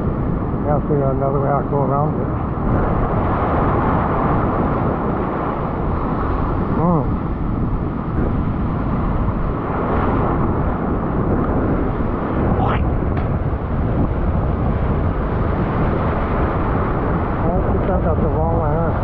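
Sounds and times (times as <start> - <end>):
surf churning: 0.0 - 19.0.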